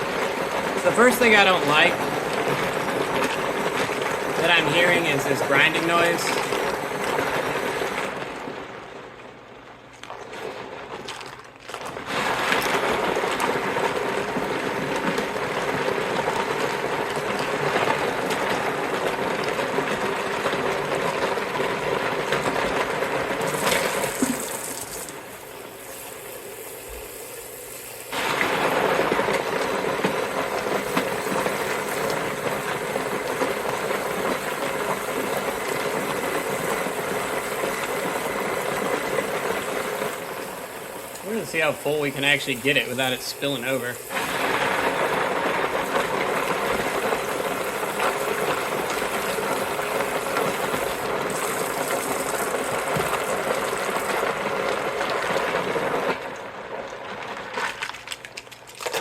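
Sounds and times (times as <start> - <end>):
washing machine churning plastic bricks: 0.0 - 59.0.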